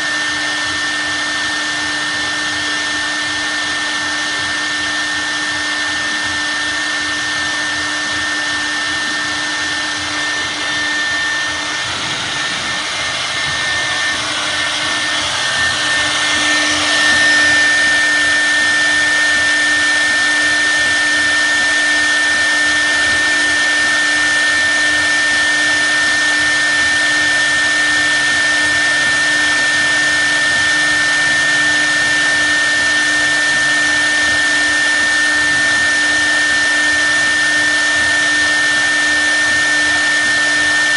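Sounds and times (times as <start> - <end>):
cutter carving wood: 0.0 - 40.9
wood router spindle whining: 0.0 - 40.9.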